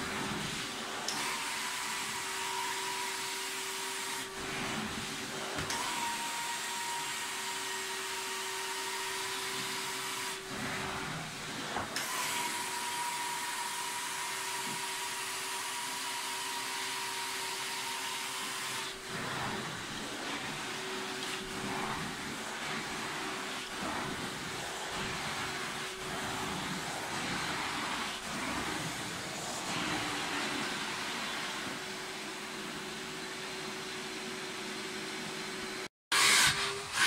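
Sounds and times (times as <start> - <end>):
carpet extractor vacuum hiss: 0.0 - 37.0.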